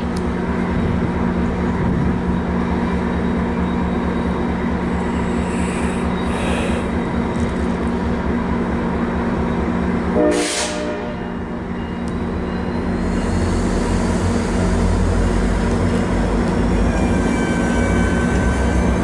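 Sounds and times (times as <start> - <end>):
diesel locomotive droning: 0.0 - 19.0.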